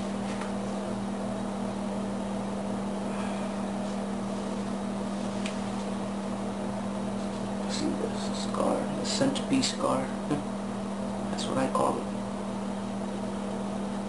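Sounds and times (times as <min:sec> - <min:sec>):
steady low electrical hum: 0:00.0 - 0:14.0.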